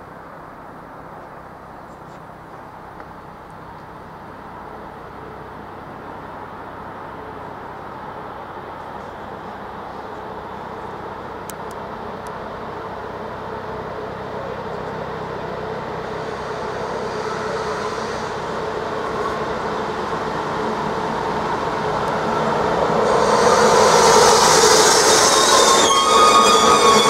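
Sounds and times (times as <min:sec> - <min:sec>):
passenger train approaching: 0:00.0 - 0:27.0.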